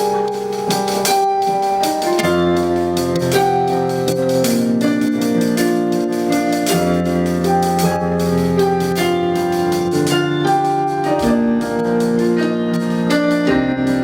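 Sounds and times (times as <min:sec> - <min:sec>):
electric keyboard chords: 0:00.0 - 0:14.0
bass line: 0:02.1 - 0:14.0.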